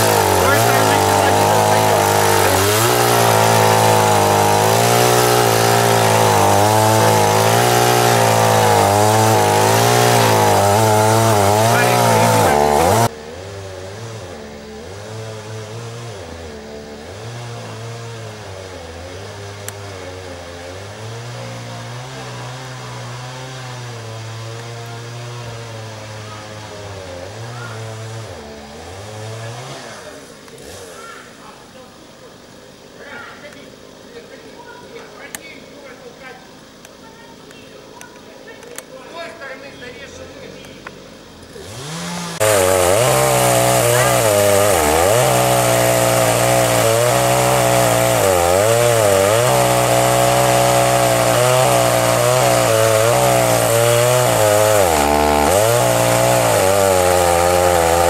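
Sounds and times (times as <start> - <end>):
chainsaw cutting wood: 0.0 - 31.3, 40.6 - 58.0.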